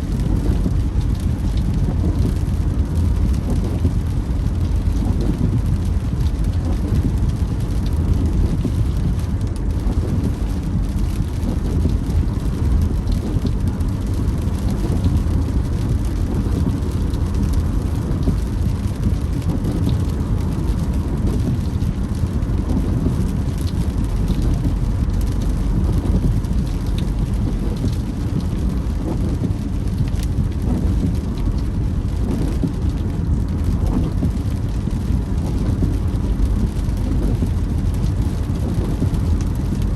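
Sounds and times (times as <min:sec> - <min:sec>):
rain hitting car: 0:00.0 - 0:39.9
road and engine rumble: 0:00.0 - 0:39.9.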